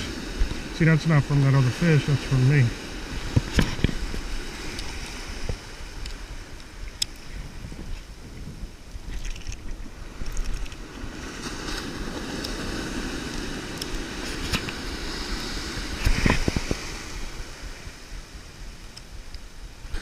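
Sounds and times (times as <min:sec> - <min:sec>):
ocean surf washing: 0:00.0 - 0:20.0
wind buffeting microphone: 0:00.0 - 0:20.0.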